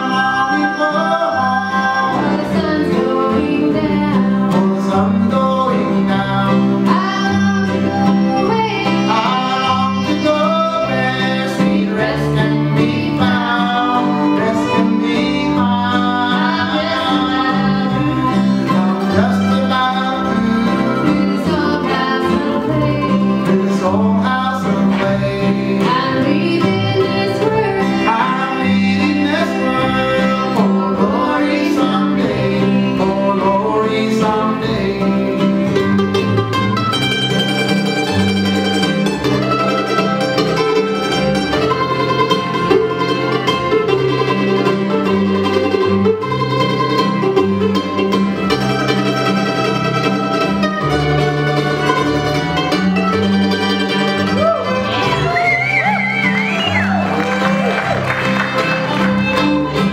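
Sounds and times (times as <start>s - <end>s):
string band playing waltz: 0.0s - 59.9s.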